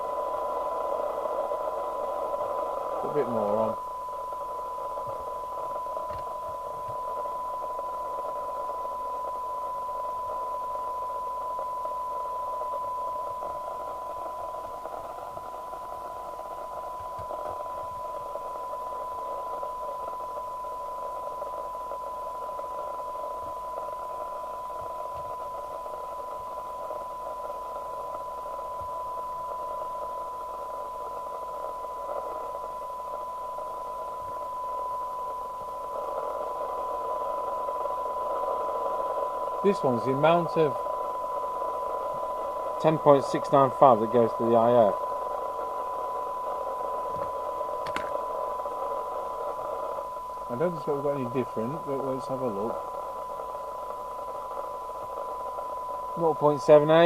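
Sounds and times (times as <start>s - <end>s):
radio receiver hiss: 0.0s - 57.0s
steady test tone: 0.0s - 57.0s.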